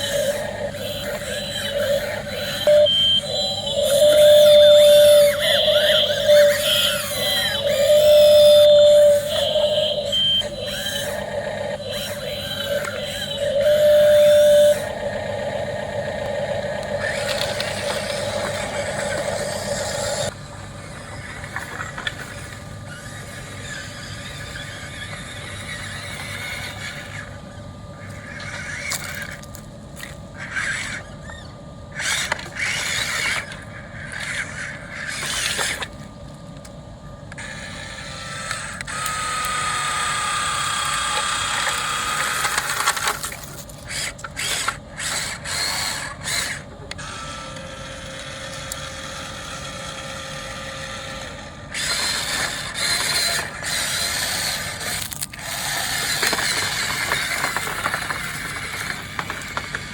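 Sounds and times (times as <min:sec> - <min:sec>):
model excavator motors whining: 0:00.0 - 0:59.9.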